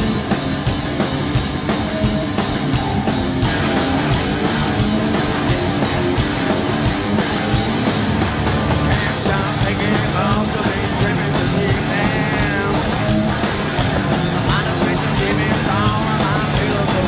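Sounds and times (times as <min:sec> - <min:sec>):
hard rock band playing: 0:00.0 - 0:17.0.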